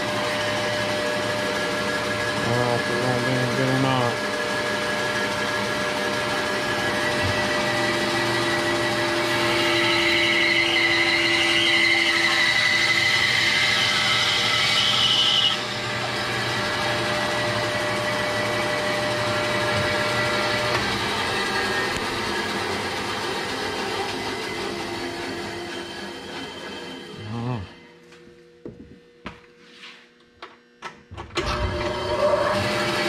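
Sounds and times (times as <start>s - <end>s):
bandsaw running: 0.0s - 27.8s, 31.4s - 33.0s
saw cutting through wood: 0.0s - 27.8s, 31.6s - 33.0s.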